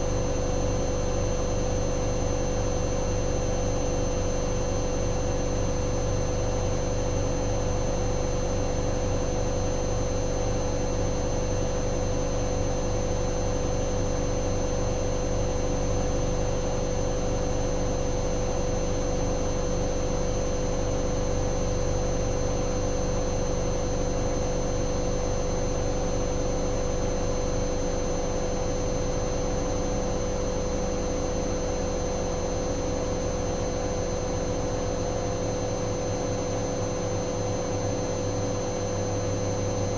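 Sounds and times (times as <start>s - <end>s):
motor whine and hum: 0.0s - 39.9s.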